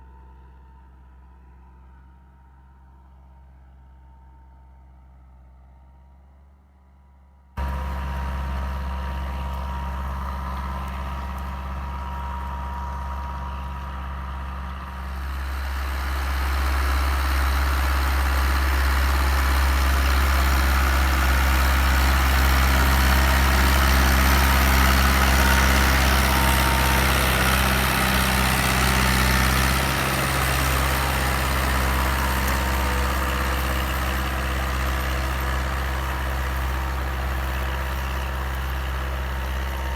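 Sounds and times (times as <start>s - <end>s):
tractor diesel engine under load: 7.6s - 39.9s.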